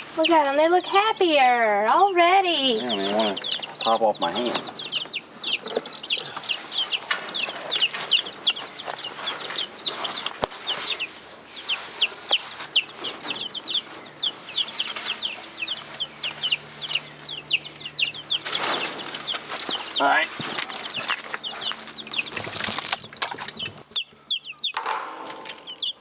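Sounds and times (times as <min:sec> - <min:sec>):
baby chicks peeping: 0:00.0 - 0:26.0.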